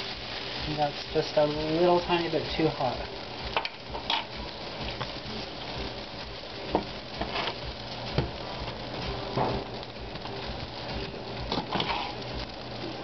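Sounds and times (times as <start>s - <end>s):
bread sizzling in frying pan: 0.0s - 13.0s.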